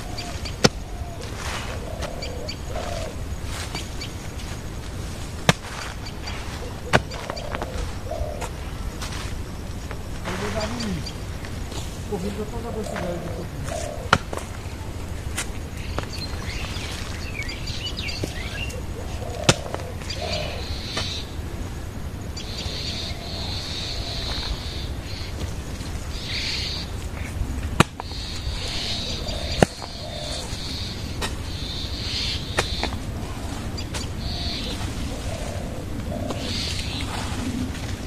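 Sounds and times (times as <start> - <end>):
small birds chirping: 0.0 - 38.0
steady low rumble: 0.0 - 38.0.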